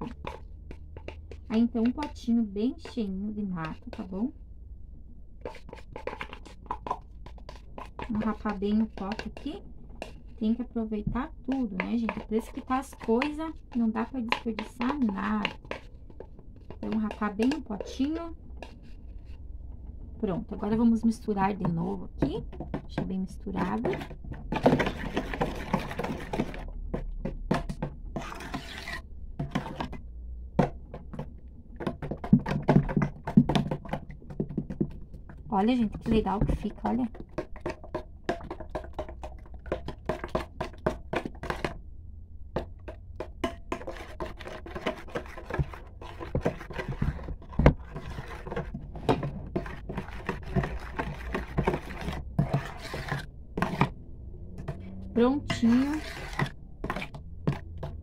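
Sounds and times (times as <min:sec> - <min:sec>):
utensil scraping enamel basin: 0:00.0 - 0:04.3, 0:05.4 - 0:19.5, 0:20.2 - 0:30.0, 0:31.8 - 0:41.8, 0:42.6 - 0:58.0.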